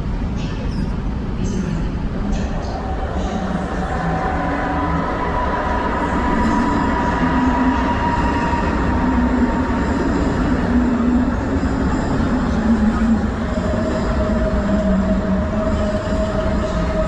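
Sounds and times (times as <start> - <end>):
train rumble: 0.0 - 17.0
high whine sinking in pitch: 2.3 - 17.0.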